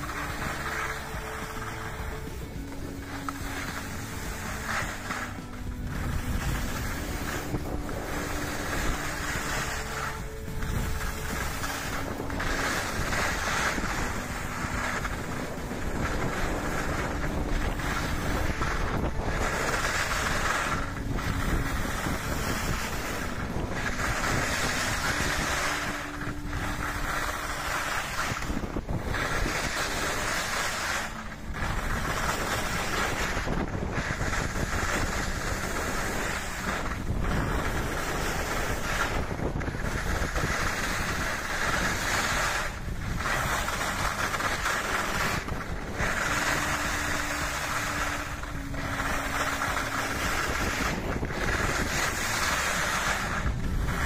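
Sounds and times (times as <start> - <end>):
skis scraping over snow: 0.0 - 54.0
wind on microphone: 0.0 - 54.0.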